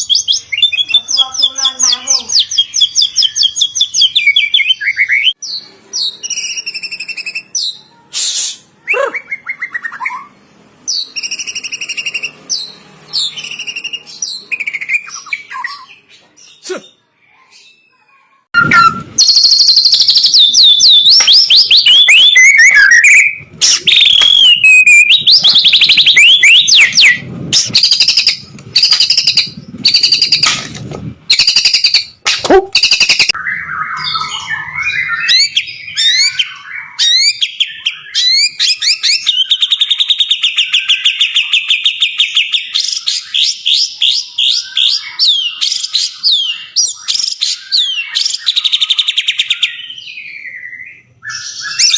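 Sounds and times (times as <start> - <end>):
bird singing whistling song: 2.4 - 10.3, 10.9 - 16.6, 18.6 - 30.5, 31.3 - 32.1, 32.7 - 51.9.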